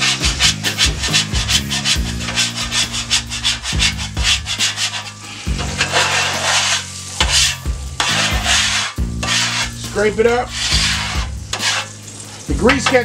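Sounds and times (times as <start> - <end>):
scraper scraping steel griddle: 0.0 - 13.0.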